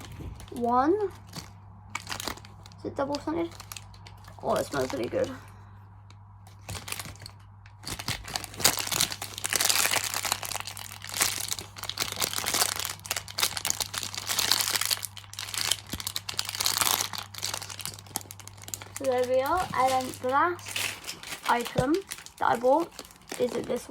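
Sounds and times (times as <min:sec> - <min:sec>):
plastic packaging crinkling: 0:00.0 - 0:05.6, 0:06.4 - 0:23.9.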